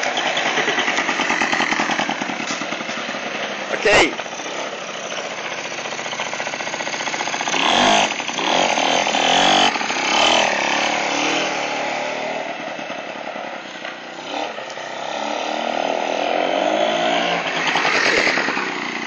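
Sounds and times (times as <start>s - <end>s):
small motorbike engine revving: 0.0s - 19.0s.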